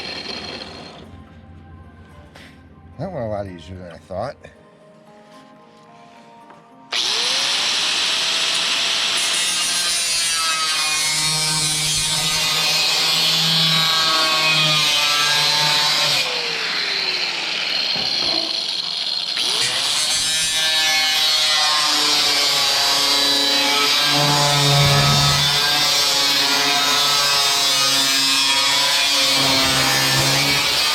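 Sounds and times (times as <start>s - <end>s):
angle grinder cutting sheet metal: 0.0s - 1.0s, 6.9s - 30.9s.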